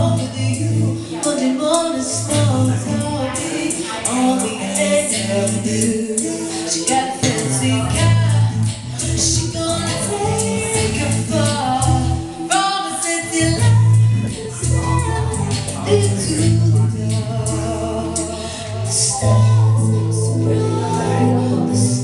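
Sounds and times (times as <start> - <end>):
band playing live: 0.0 - 22.0
person singing: 0.0 - 22.0.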